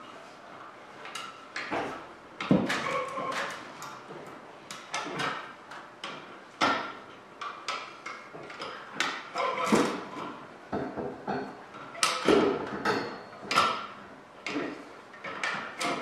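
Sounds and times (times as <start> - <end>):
metal clanks and knocks: 1.1 - 16.0.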